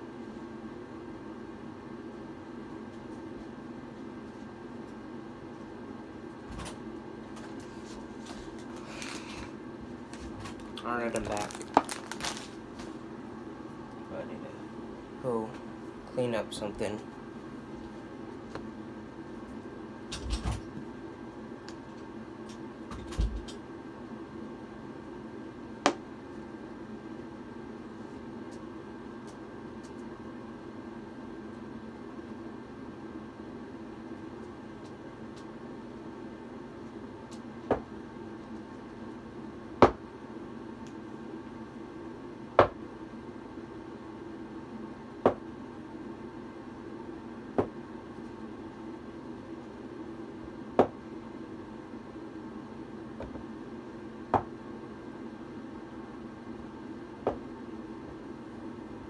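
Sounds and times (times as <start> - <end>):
low room hum: 0.0 - 59.0.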